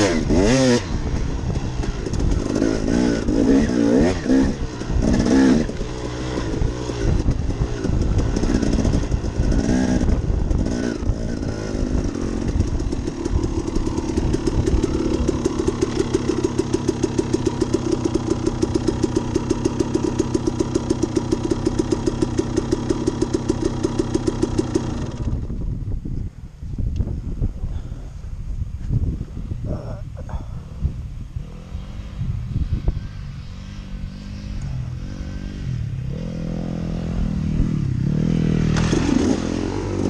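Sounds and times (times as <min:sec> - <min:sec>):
dirt bike engine idling: 0:00.0 - 0:40.0.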